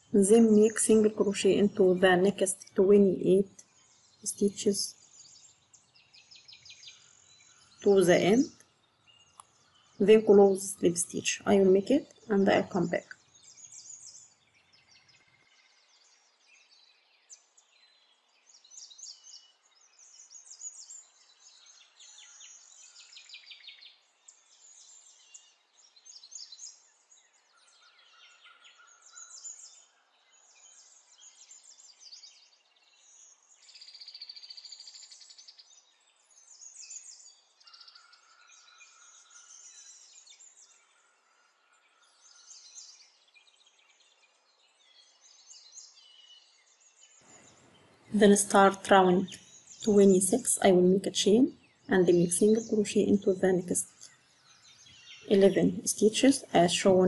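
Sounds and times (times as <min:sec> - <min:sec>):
faint songbirds chirping and trilling: 0:00.0 - 0:57.0.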